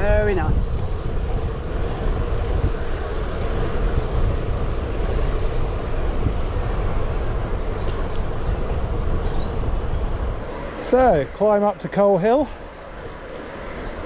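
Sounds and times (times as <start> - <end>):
tyres rumbling on tarmac: 0.0 - 14.0
wind rushing over microphone: 0.0 - 14.0.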